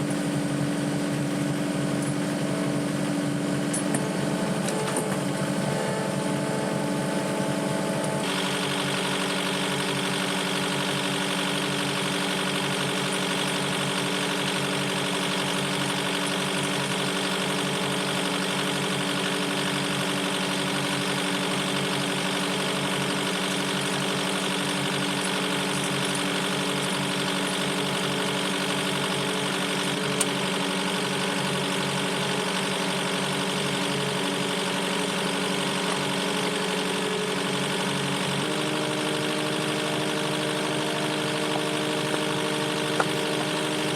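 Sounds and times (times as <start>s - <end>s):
loader engine running: 0.0s - 43.9s.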